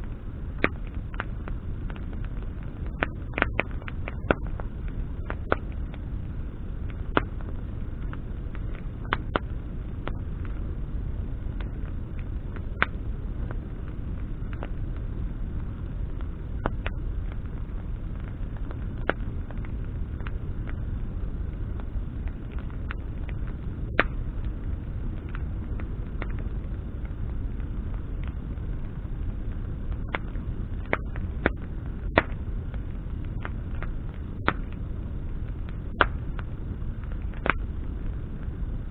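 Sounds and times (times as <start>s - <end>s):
campfire crackling and popping: 0.0s - 38.9s
low fire rumble: 0.0s - 38.9s.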